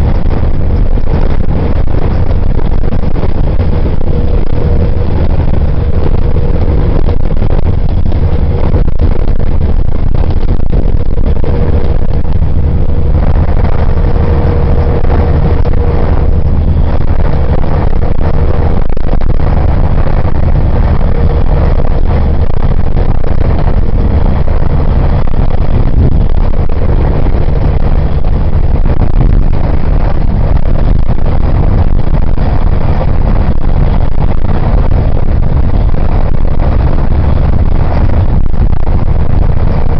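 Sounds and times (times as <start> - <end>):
faint steady whine: 0.0 - 39.9
vehicle engine and tyre rumble: 0.0 - 39.9.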